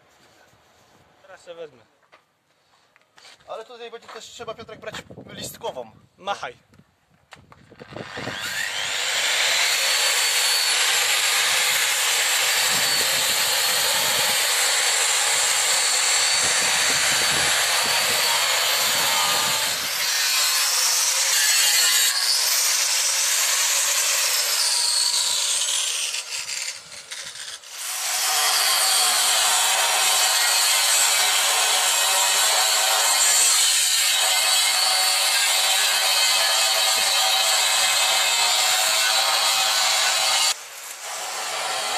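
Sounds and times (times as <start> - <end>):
angle grinder cutting steel: 7.9 - 41.9.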